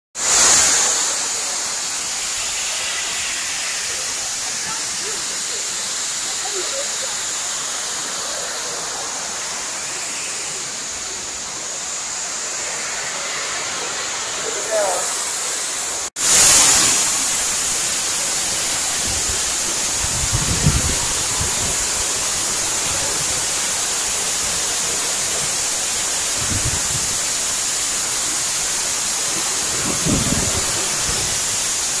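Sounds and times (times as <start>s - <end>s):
waterfall splashing into pool: 0.2s - 32.0s.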